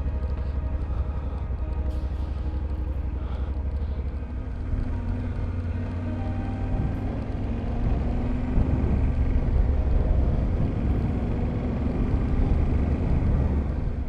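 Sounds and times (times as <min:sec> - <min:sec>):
motorcycle riding on road: 0:00.0 - 0:14.0.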